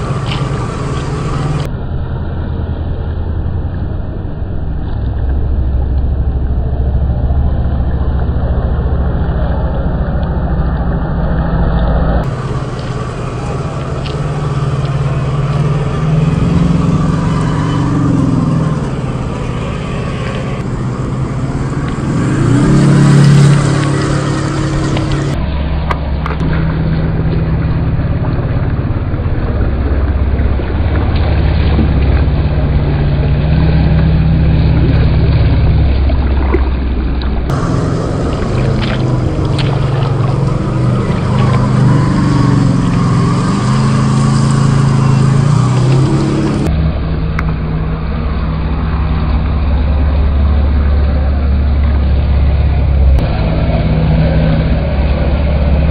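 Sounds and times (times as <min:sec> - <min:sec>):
tyres splashing through mud: 0:00.0 - 0:01.7, 0:04.8 - 0:55.9.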